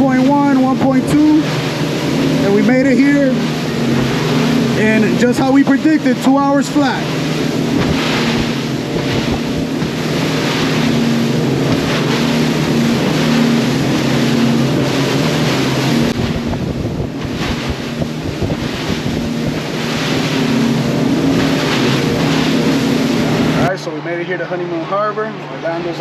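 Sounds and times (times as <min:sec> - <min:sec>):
wind buffeting microphone: 0:00.0 - 0:23.7
outboard engines running: 0:00.0 - 0:26.0
water rushing along hull: 0:00.0 - 0:26.0.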